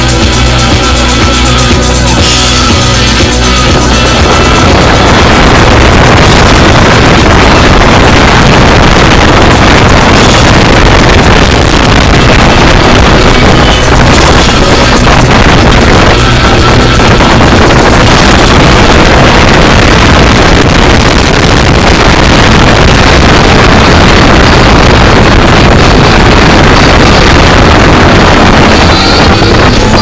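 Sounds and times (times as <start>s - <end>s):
car engine: 0.0s - 30.0s
wind noise: 0.0s - 30.0s.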